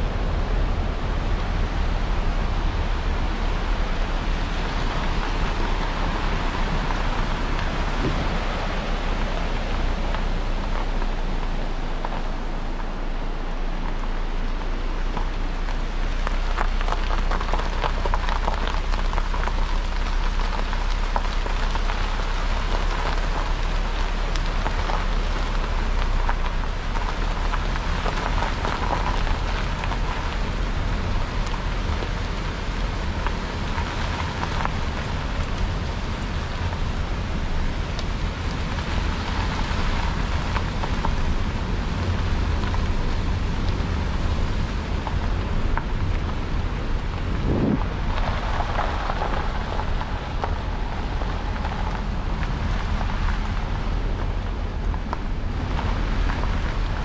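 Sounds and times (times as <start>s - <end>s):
mountain stream rushing: 0.0s - 57.0s
tyres rolling over gravel: 0.0s - 57.0s.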